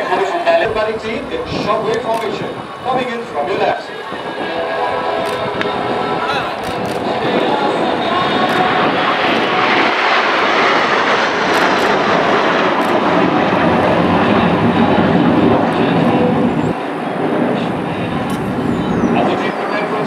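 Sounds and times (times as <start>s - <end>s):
military jet engine roar: 0.0s - 20.0s.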